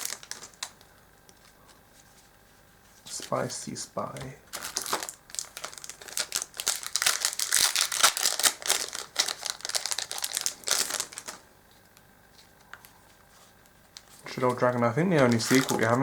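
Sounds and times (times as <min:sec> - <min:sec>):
foil wrappers crinkling: 0:00.0 - 0:01.8, 0:03.1 - 0:16.0.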